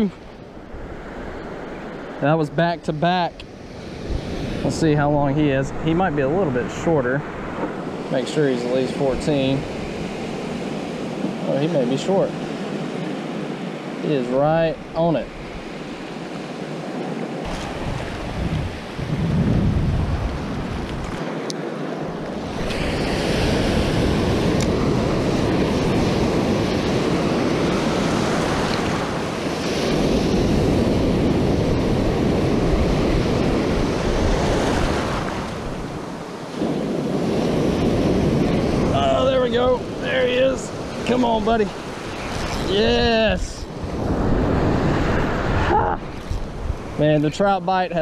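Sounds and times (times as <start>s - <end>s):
small surf waves breaking: 0.0s - 47.8s
wind buffeting microphone: 0.0s - 48.0s.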